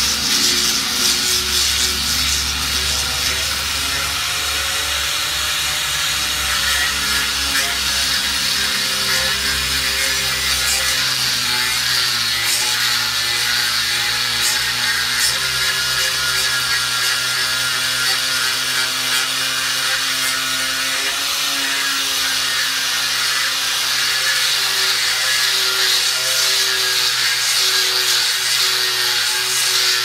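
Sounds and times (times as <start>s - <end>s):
grinder grinding wood: 0.0s - 30.0s.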